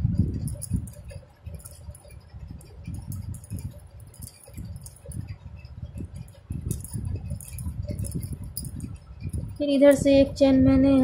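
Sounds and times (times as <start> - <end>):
yarn handling rumbles: 0.0 - 10.4.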